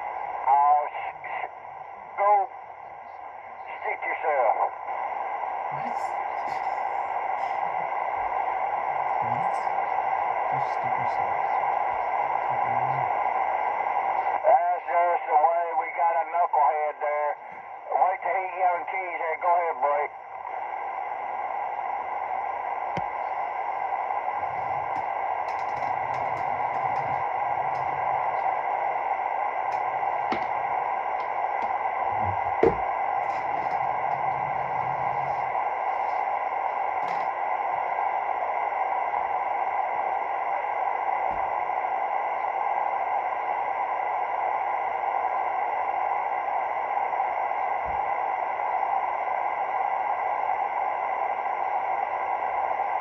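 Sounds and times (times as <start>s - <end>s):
radio static hiss: 0.0s - 53.0s.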